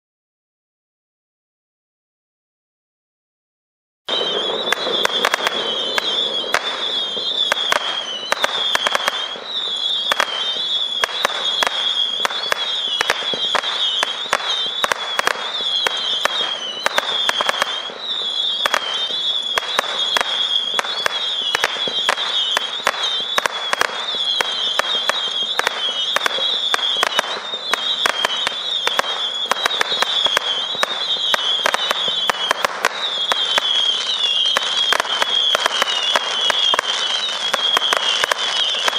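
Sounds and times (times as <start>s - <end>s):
firework sharp pops: 4.1s - 38.9s
warbling firework whistle: 4.1s - 38.9s.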